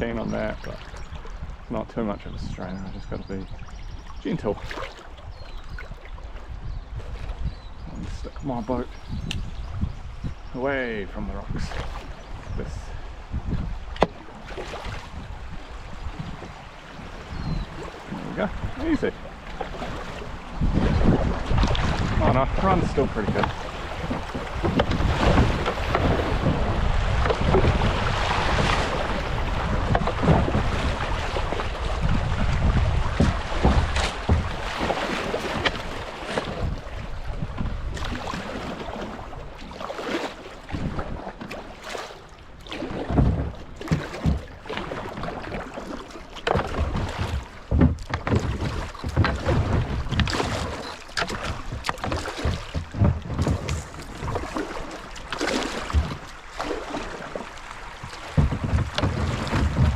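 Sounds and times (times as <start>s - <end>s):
wind buffeting microphone: 0.0s - 39.6s, 46.6s - 56.4s, 57.7s - 59.9s
paddle splashes and knocks: 0.0s - 59.9s
rushing water: 0.0s - 59.9s.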